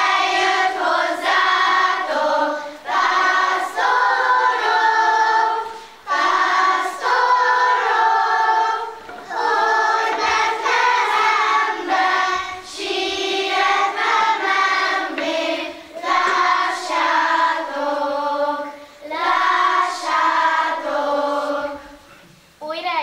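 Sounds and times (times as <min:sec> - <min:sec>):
children's choir singing a carol: 0:00.0 - 0:22.3.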